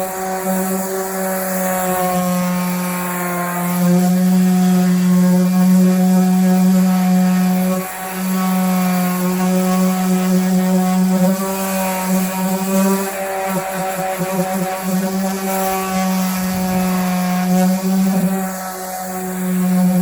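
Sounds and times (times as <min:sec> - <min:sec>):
electric power sander running: 0:00.0 - 0:20.0.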